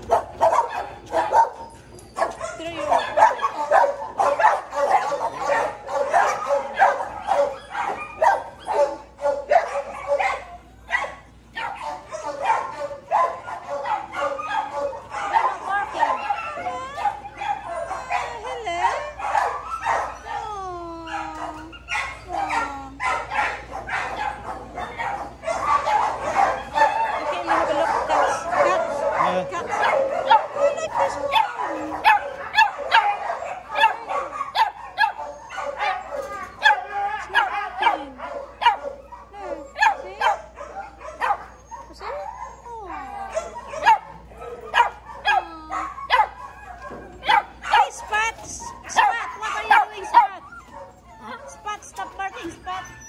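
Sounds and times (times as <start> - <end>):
dogs barking: 0.0 - 53.0
dogs whining: 0.0 - 53.0.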